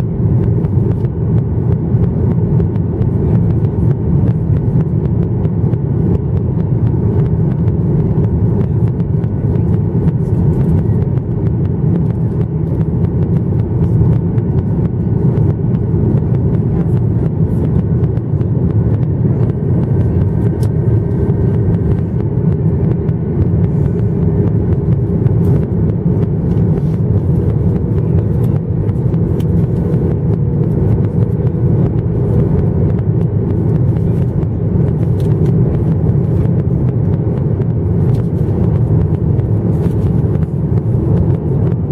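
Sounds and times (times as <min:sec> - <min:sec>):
jet engine rumble: 0:00.0 - 0:41.9.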